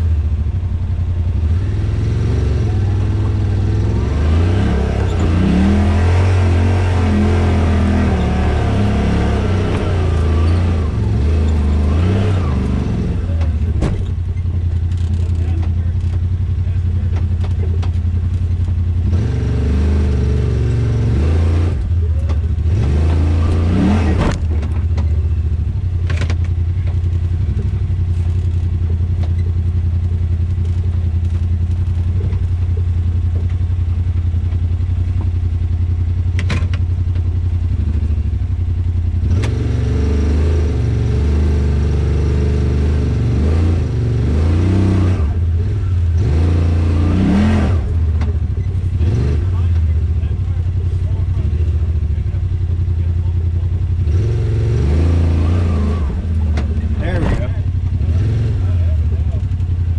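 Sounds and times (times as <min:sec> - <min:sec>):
engine running at low revs: 0:00.0 - 0:59.9.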